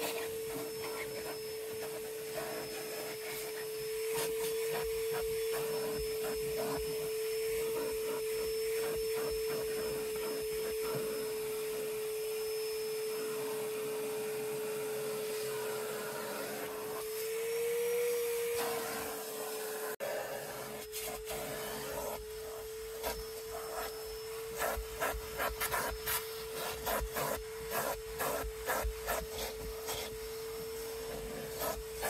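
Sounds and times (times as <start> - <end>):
vacuum motor whining: 0.0 - 32.0.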